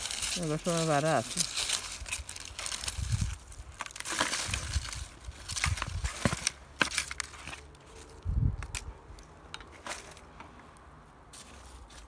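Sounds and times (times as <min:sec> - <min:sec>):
dry plant stems rustling: 0:00.0 - 0:12.0.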